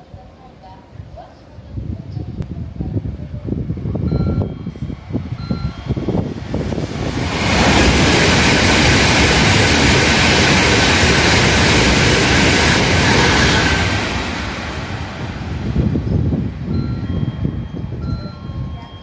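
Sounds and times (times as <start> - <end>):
train passing at speed: 1.6 - 19.0.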